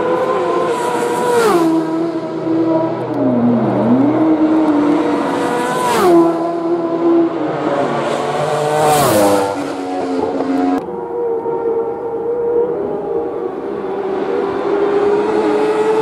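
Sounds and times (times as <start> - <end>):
racing motorcycles passing by: 0.0 - 16.0.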